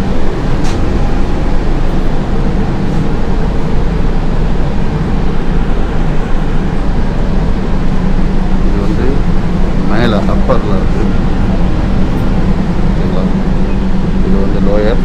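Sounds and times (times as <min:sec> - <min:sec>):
train air conditioning hum: 0:00.0 - 0:15.0.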